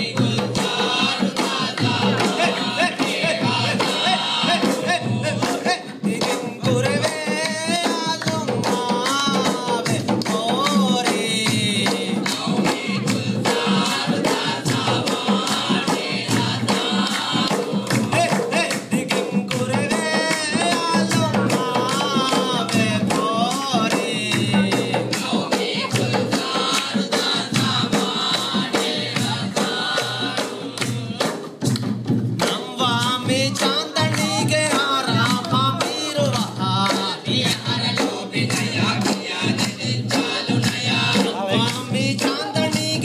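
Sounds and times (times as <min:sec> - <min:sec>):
barrel drums driving beat: 0:00.0 - 0:43.0
men singing in chorus: 0:00.0 - 0:43.0.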